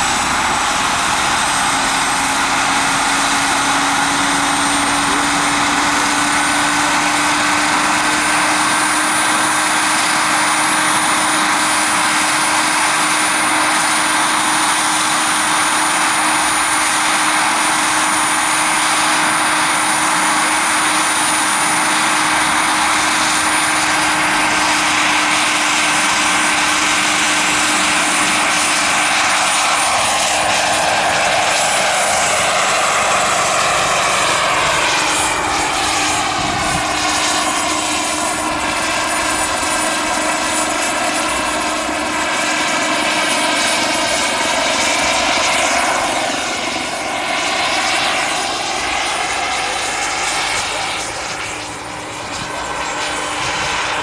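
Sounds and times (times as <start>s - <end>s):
helicopter rotor: 0.0s - 54.0s
model helicopter turbine whine: 0.0s - 54.0s.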